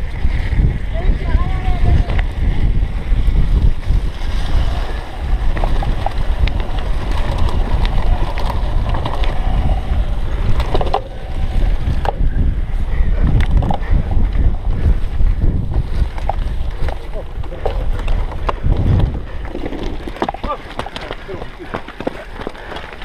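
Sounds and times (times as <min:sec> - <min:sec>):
bike clicks and rattles: 0:00.0 - 0:23.0
wind rushing over microphone: 0:00.0 - 0:23.0.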